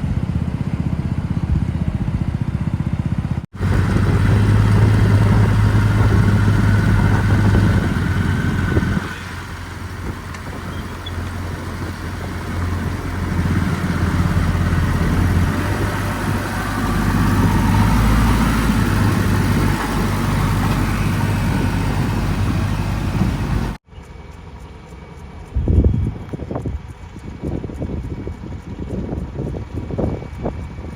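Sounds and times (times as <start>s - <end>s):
diesel engine humming: 0.0s - 30.4s.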